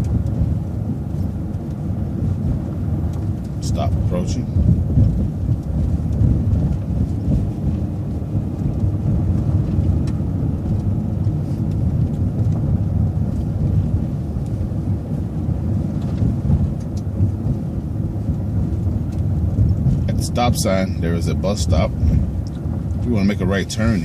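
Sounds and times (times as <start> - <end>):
bus engine and tyres rumbling: 0.0 - 24.0.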